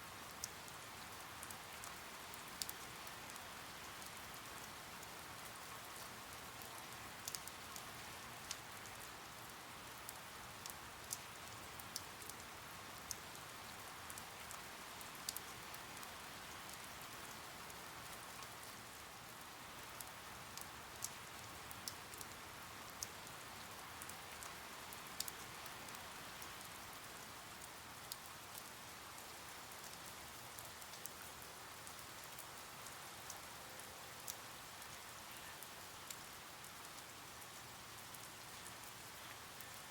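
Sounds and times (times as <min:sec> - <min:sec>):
steady rain hiss: 0:00.0 - 0:39.9
raindrops ticking: 0:00.2 - 0:33.5, 0:34.2 - 0:39.9.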